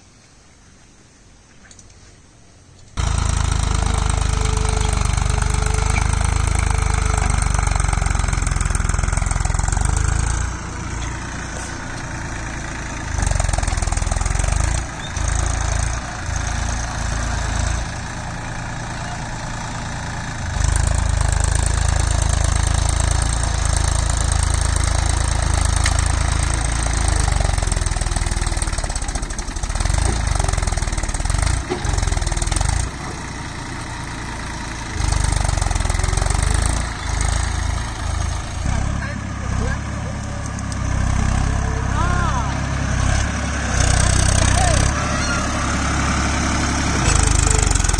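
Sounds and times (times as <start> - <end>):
tractor diesel engine running: 2.7 - 47.9.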